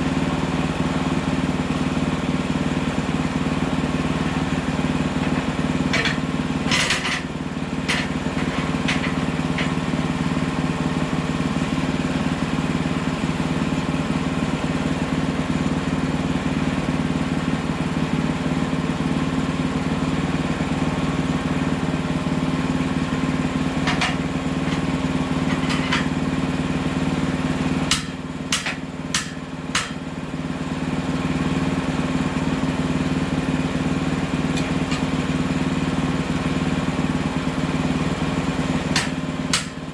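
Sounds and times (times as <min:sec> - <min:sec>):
sawmill engine humming: 0:00.0 - 0:39.9.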